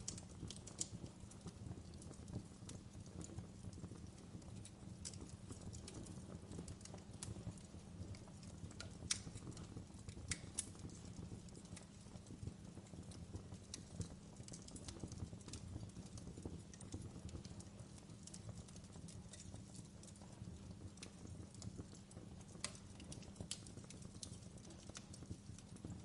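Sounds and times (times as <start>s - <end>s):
fire crackling and popping: 0.0s - 26.0s
flames rumbling: 0.0s - 26.0s.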